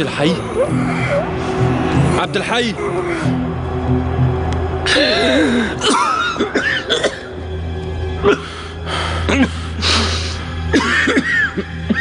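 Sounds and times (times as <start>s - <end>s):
tense background music: 0.0s - 12.0s.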